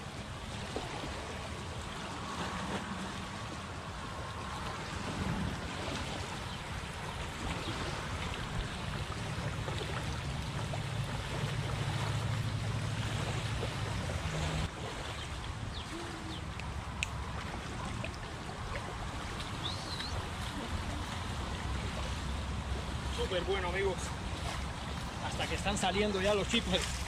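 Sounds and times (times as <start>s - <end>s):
waves lapping on sandy shore: 0.0s - 27.0s.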